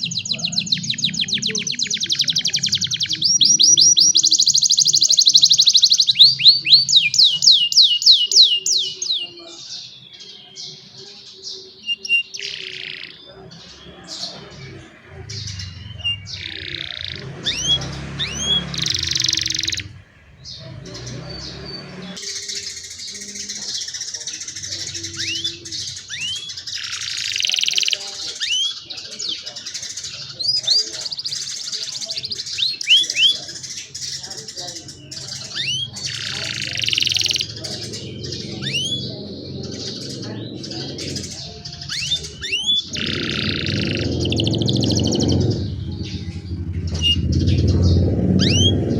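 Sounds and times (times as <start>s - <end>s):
canaries singing with trills: 0.0s - 48.9s.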